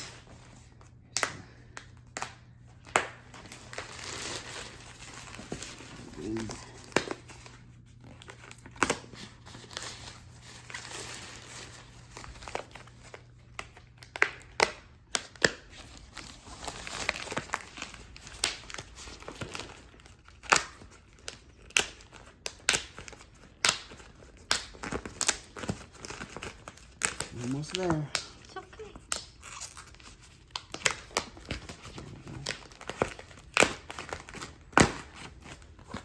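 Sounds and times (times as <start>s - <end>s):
plastic wrapping crinkling and tearing: 0.0s - 36.0s.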